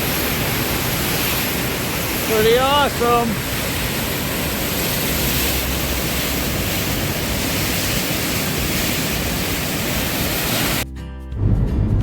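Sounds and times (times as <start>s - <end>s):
loud rushing noise: 0.0s - 10.8s.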